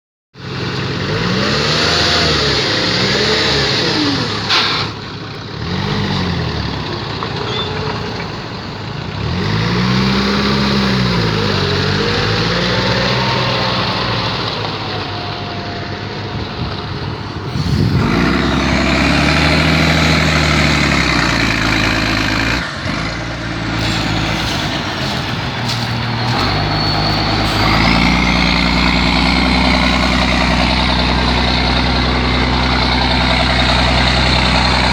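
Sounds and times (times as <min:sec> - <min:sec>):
diesel truck engine revving: 0:00.4 - 0:34.9.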